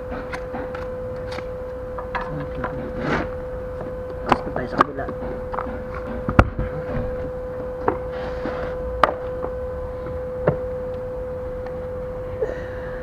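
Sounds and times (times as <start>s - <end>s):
steady high hum: 0.0s - 13.0s.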